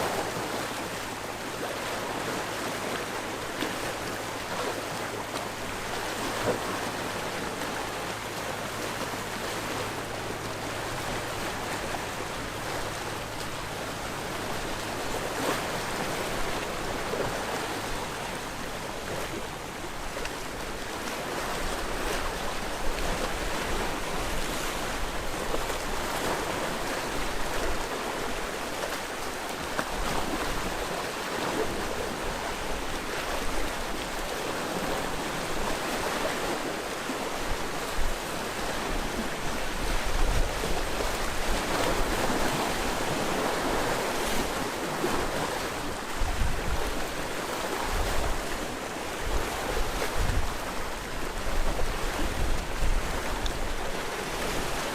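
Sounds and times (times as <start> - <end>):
sea waves washing on shore: 0.0 - 54.9
wind rumble on microphone: 8.7 - 54.9.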